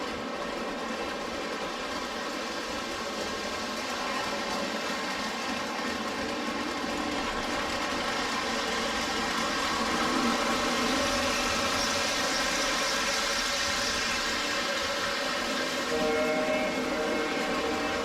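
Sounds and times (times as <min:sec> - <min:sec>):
toy train wheels running: 0:00.0 - 0:18.0
toy train electric motor hum: 0:01.1 - 0:18.0.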